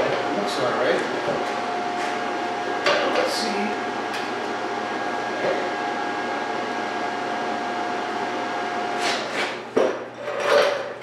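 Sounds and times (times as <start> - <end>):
fan whirring: 0.0 - 11.0.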